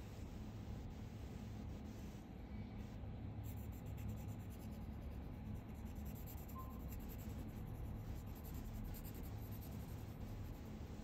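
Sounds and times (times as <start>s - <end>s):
low steady hum: 0.0s - 11.0s
faint fine scratching on abrasive paper: 0.7s - 11.0s.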